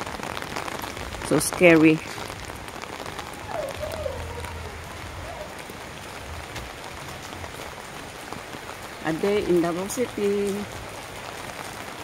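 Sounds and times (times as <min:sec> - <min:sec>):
raindrops pattering on umbrella: 0:00.0 - 0:12.0
steady rain falling: 0:00.0 - 0:12.0.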